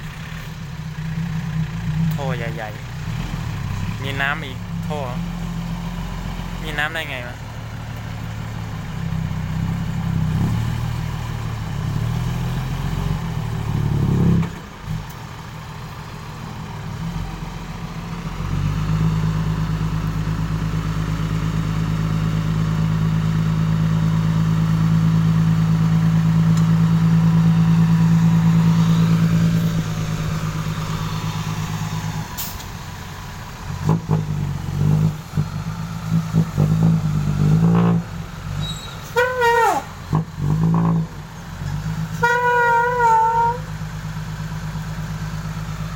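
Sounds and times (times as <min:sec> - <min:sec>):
diesel truck engine revving: 0:00.0 - 0:45.9.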